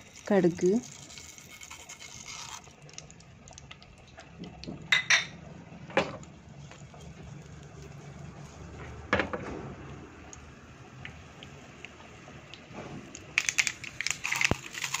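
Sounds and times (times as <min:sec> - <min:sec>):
mustard seeds crackling in hot oil: 0:00.0 - 0:04.7, 0:06.2 - 0:08.8, 0:09.8 - 0:15.0.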